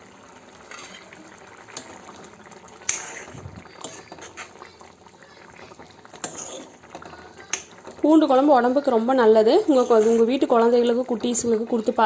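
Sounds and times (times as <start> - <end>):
thick gravy bubbling and popping: 0.0 - 12.0.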